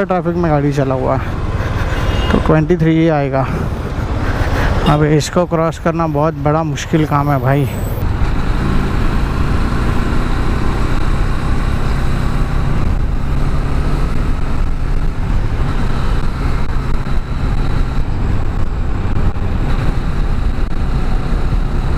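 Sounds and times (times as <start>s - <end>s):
motorcycle engine cruising: 0.0s - 21.9s.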